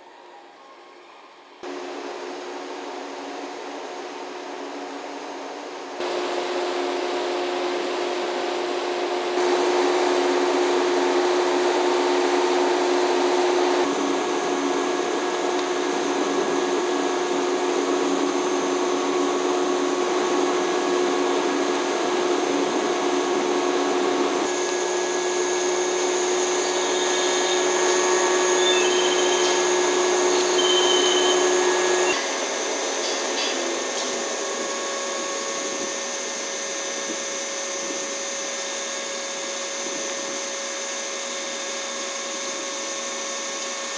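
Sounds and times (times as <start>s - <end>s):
machinery whirring hum: 0.0s - 43.9s.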